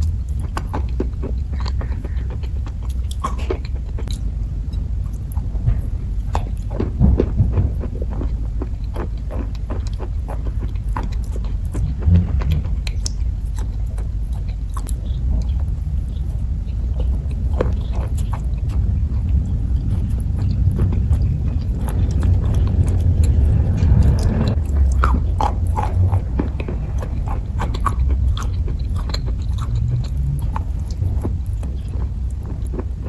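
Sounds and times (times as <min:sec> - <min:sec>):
chewing with wet mouth clicks: 0:00.0 - 0:33.0
steady low rumble: 0:00.0 - 0:33.0.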